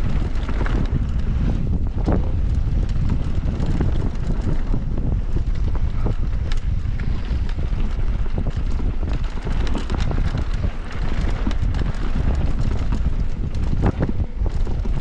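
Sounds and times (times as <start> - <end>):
bike rattling and knocking: 0.0 - 15.0
low rumble: 0.0 - 15.0
wind buffeting microphone: 0.0 - 15.0.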